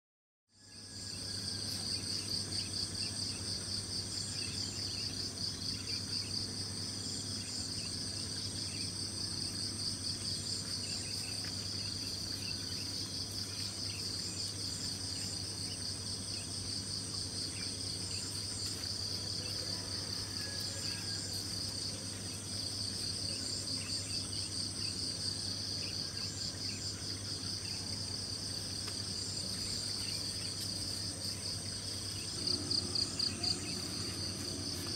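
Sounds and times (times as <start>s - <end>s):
insects chirring: 0.7s - 34.9s.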